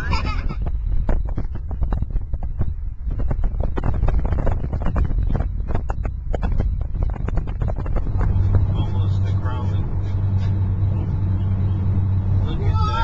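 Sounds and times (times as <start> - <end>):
moving car rumble: 0.0 - 13.0
steady low drone: 0.0 - 13.0
wind buffeting microphone: 0.0 - 13.0.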